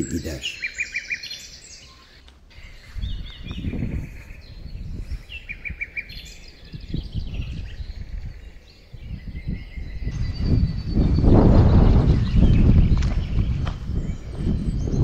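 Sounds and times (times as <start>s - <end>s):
small birds singing: 0.0s - 15.0s.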